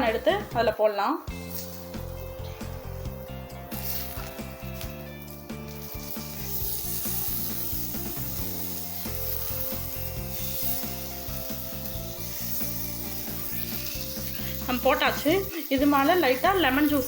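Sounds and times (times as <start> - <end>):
corn sizzling in hot oil: 1.3 - 17.0.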